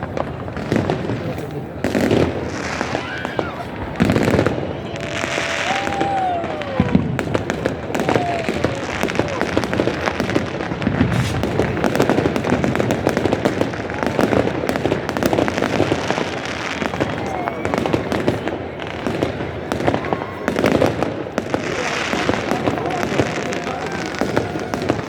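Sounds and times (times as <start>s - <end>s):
fireworks crackling and banging: 0.0s - 25.0s.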